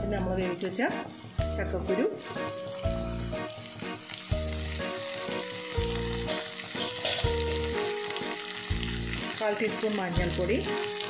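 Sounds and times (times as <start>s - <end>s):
food sizzling in oil: 0.2s - 11.0s.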